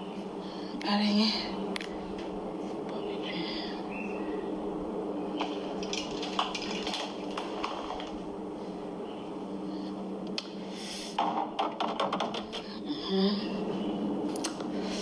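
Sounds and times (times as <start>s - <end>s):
fridge hum: 0.0s - 15.0s.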